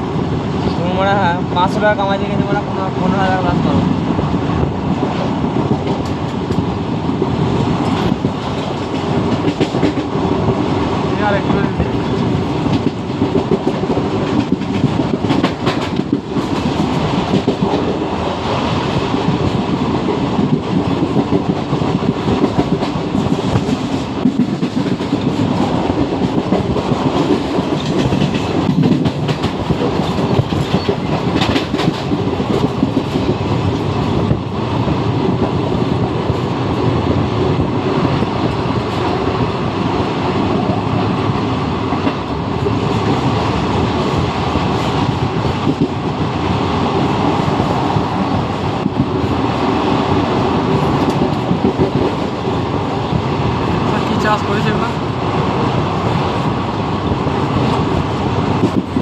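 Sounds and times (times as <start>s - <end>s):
train coach rumble: 0.0s - 59.0s.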